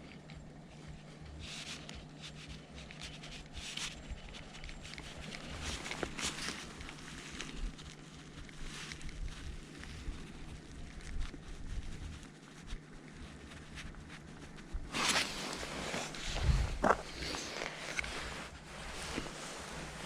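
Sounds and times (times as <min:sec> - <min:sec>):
faint low hum: 0:00.0 - 0:20.0
faint rustling and scuffing: 0:00.0 - 0:20.0.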